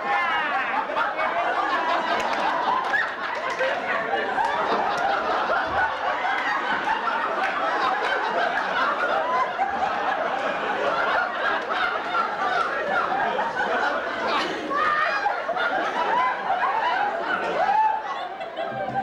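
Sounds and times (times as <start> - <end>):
audience laughing: 0.0 - 19.0.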